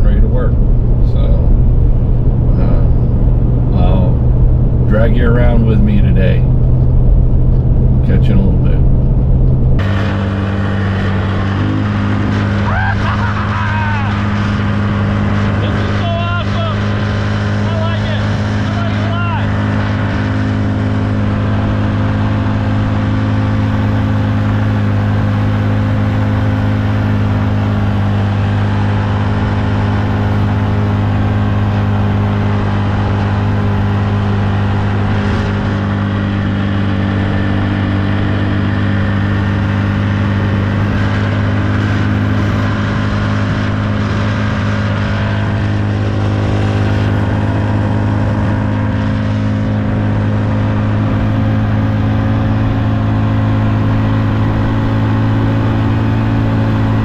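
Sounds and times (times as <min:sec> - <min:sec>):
road noise: 0:00.0 - 0:57.0
vehicle engine hum: 0:00.0 - 0:57.0.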